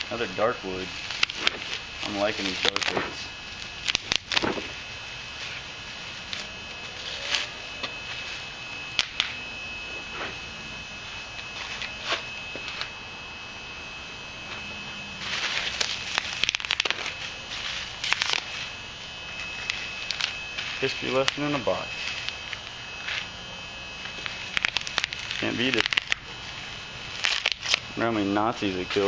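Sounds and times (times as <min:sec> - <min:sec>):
crackling: 0:00.0 - 0:29.0.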